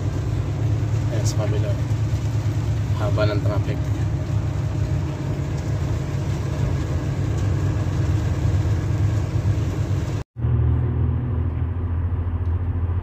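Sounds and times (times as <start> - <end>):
road noise on wet highway: 0.0 - 13.0
vehicle engine rumble: 0.0 - 13.0.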